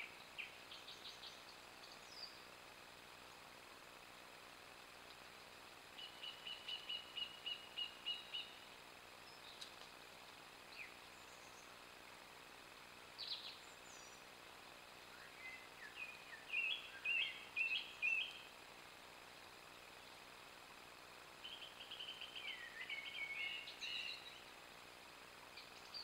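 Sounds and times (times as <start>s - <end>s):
faint steady hiss: 0.0s - 26.0s
songbird singing: 0.0s - 26.0s.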